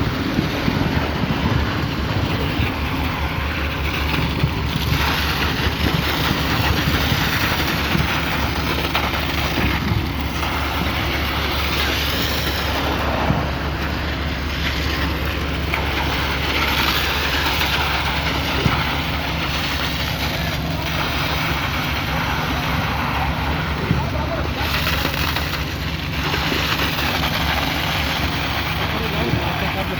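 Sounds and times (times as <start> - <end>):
concrete pump engine running: 0.0 - 29.9.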